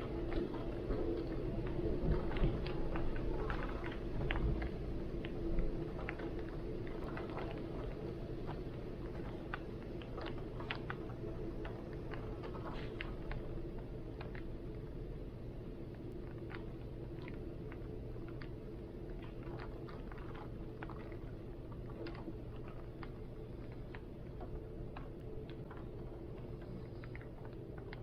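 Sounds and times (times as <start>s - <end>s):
low wind rumble: 0.0s - 28.0s
rain dripping and pattering: 0.0s - 28.0s.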